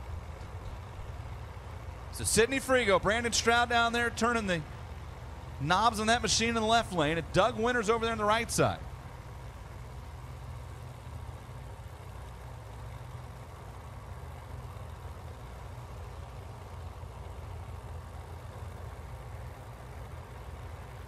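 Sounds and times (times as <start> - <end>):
drag car engine idling: 0.0 - 21.0.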